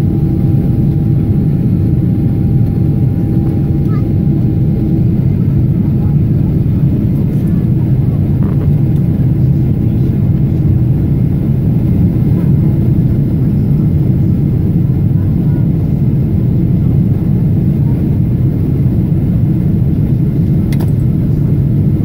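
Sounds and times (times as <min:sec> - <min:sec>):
jet engine rumble and rushing air: 0:00.0 - 0:22.0.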